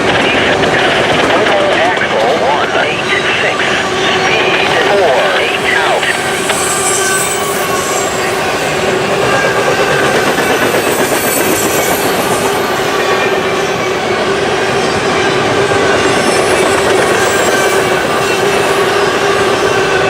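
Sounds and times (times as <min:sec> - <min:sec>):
freight train cars rumbling: 0:00.0 - 0:20.0
high wheel squeals: 0:03.6 - 0:20.0.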